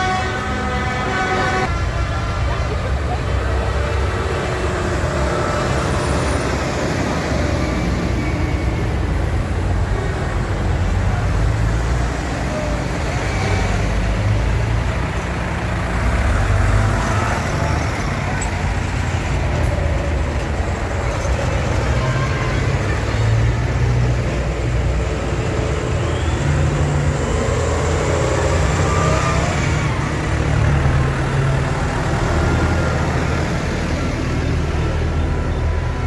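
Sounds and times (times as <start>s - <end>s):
tractor engines droning: 0.0s - 36.0s.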